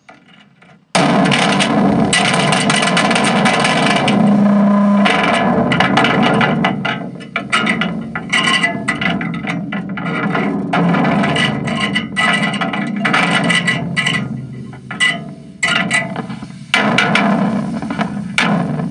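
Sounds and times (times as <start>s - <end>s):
distorted fuzz scraping and rattling: 0.0s - 18.9s.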